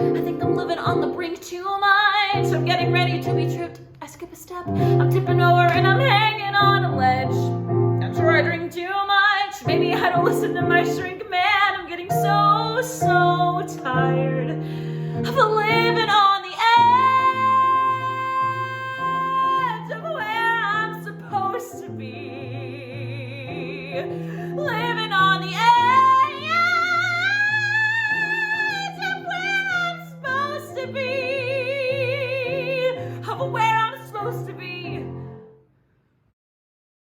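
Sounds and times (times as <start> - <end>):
woman singing with vibrato: 0.0 - 35.2.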